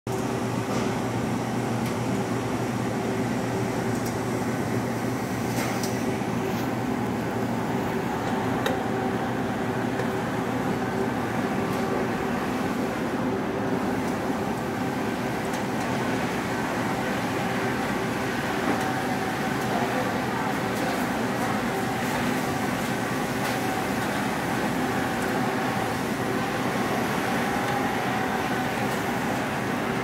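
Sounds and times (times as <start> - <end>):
refrigeration machinery hum: 0.1 - 30.0.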